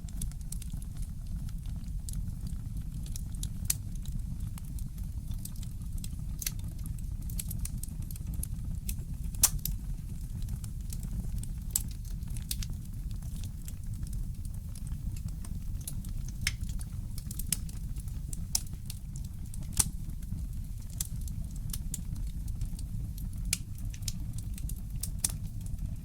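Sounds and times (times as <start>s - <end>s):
fireplace crackling: 3.1s - 26.0s.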